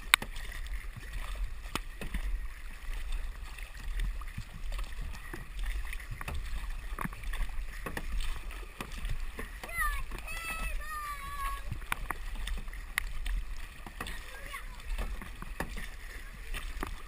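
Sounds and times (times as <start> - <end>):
kayak paddles dipping in water: 0.0 - 17.0
water splashing along hull: 0.0 - 17.0.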